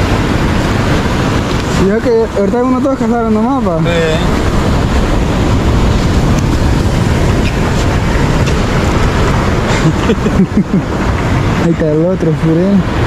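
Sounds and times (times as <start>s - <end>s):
sea surf washing on beach: 0.0s - 13.0s
wind buffeting microphone: 0.0s - 13.0s.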